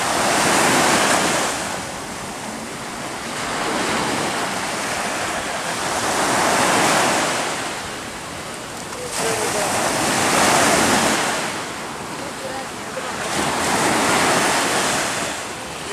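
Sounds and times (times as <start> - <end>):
small waves breaking: 0.0 - 15.9.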